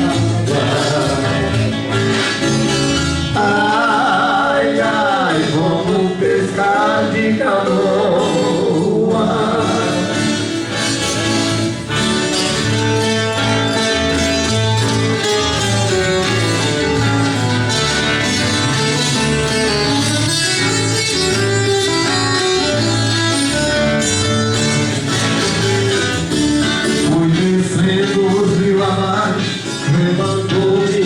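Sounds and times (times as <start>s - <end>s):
acoustic guitars playing: 0.0s - 31.0s.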